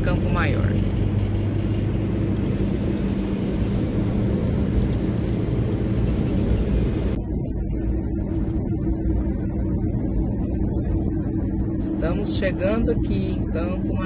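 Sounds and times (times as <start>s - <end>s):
motorhome engine drone: 0.0s - 14.0s
road and wind noise: 0.0s - 14.0s.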